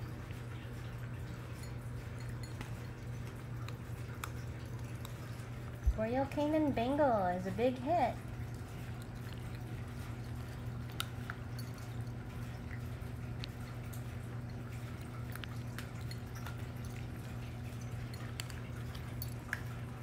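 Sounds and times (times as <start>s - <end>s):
cats crunching dry kibble: 0.0s - 20.0s
steady low hum: 0.0s - 20.0s.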